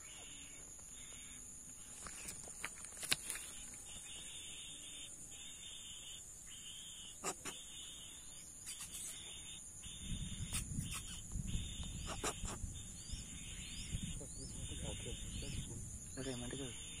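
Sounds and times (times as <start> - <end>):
insect chorus: 0.0 - 17.0
low insect buzzing: 0.0 - 17.0.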